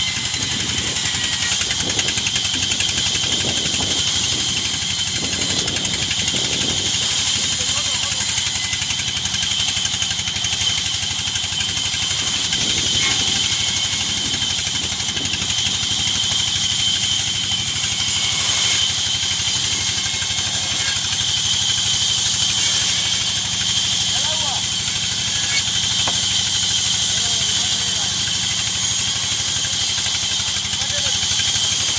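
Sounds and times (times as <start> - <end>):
band saw drone: 0.0 - 31.9
high saw whine: 0.0 - 31.9.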